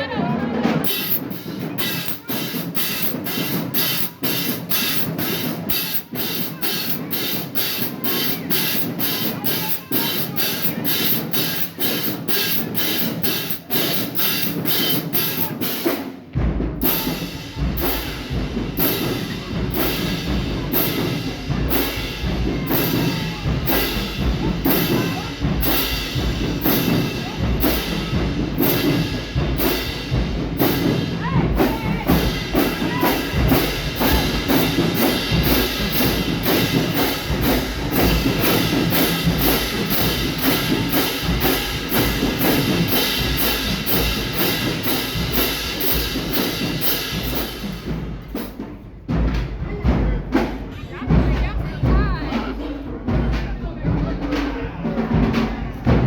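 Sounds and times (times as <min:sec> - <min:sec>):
marching band brass: 0:00.0 - 0:56.0
marching drums cadence: 0:00.0 - 0:56.0.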